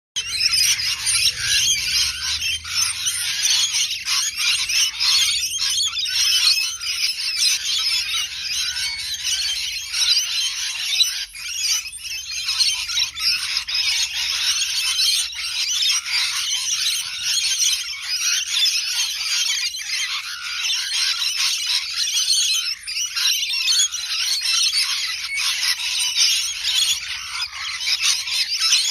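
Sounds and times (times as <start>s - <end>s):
parrots chattering: 0.2s - 28.9s.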